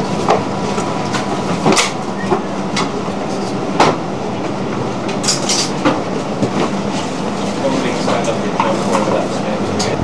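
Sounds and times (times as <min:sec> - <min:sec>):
steady hum and rush: 0:00.0 - 0:10.0.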